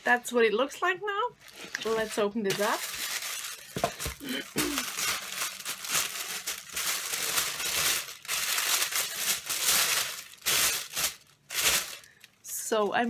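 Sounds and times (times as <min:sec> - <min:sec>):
packaging crinkling and rustling: 0:01.4 - 0:13.0.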